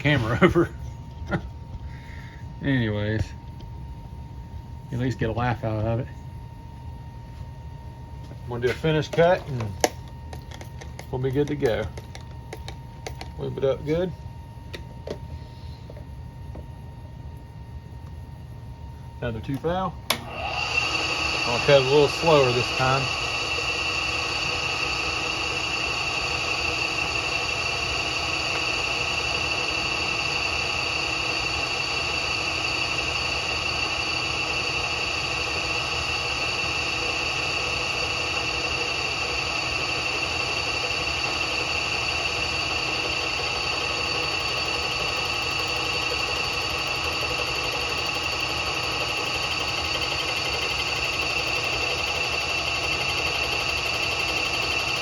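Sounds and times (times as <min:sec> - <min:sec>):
milling machine hum with high whine: 0:00.0 - 0:55.0.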